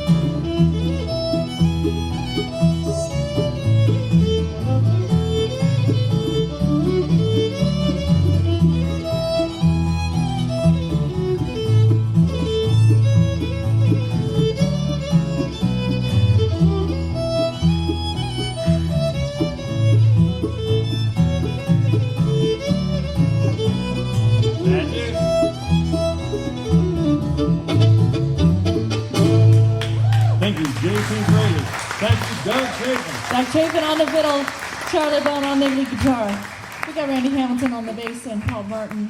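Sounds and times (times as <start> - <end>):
bass plucking steady notes: 0.0 - 36.3
fiddle melody: 0.0 - 39.0
guitar: 0.0 - 39.0.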